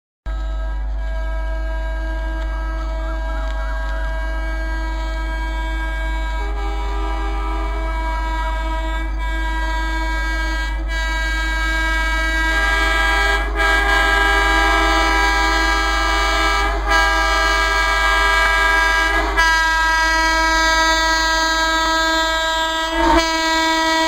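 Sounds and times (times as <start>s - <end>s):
locomotive air horn blasts: 0.2s - 24.0s.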